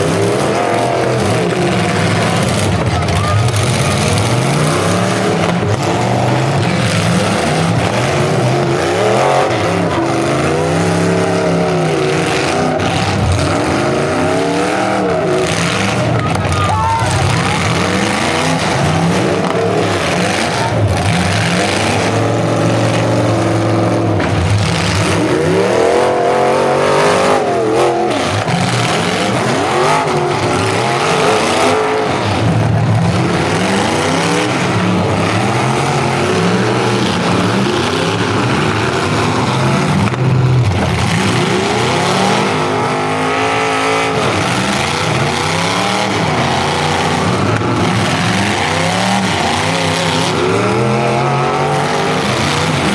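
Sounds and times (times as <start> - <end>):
car engines revving hard: 0.0 - 52.9
cars crashing into cars: 0.0 - 52.9.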